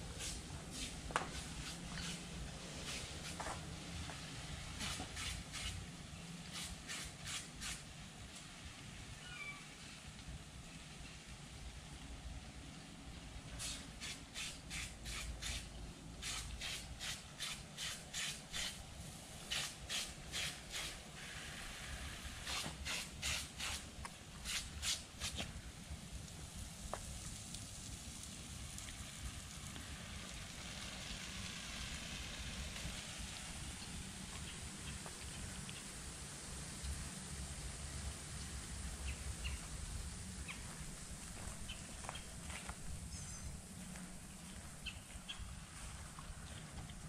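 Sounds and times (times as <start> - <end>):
sprinkler spitting water pulses: 0.0 - 9.1, 9.7 - 47.0
steady hiss of spray: 0.0 - 46.8.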